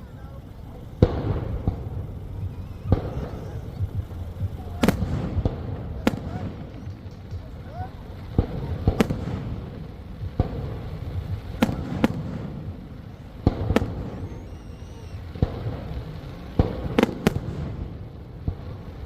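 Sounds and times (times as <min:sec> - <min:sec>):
distant fireworks rumble: 0:00.0 - 0:19.0
fireworks bangs: 0:00.0 - 0:19.0.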